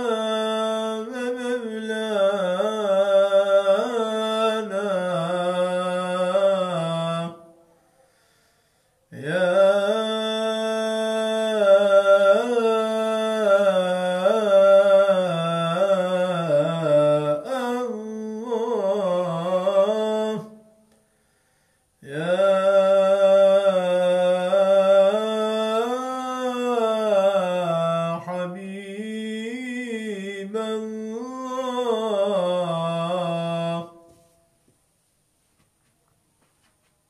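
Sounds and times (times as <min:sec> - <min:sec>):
man chanting into a microphone: 0:00.0 - 0:07.5, 0:09.1 - 0:20.6, 0:22.0 - 0:34.2.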